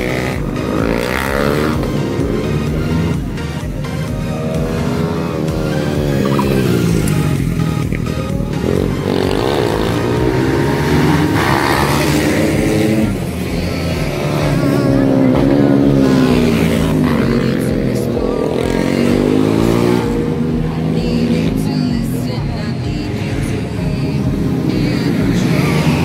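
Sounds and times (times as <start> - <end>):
racing motorcycles revving: 0.0 - 26.0.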